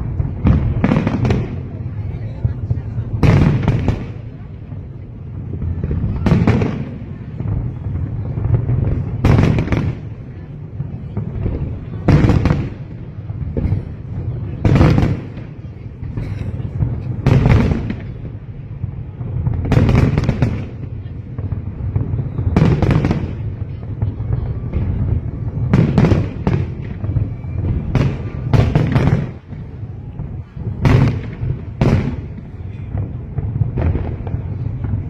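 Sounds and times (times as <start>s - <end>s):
continuous low rumble: 0.0s - 35.0s
fireworks exploding: 0.0s - 35.0s.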